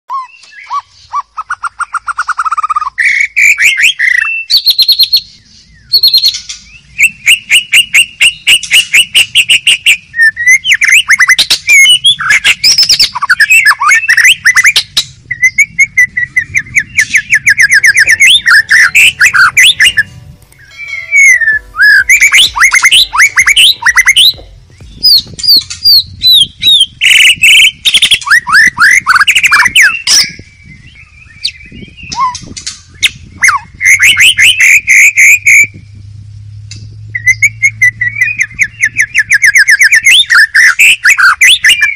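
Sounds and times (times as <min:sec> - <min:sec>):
bird singing varied song: 0:00.1 - 0:41.9.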